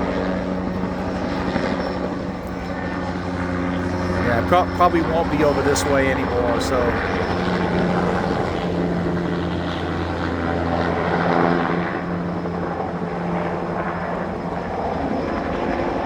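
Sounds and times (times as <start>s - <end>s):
helicopter rotor and engine: 0.0s - 16.0s.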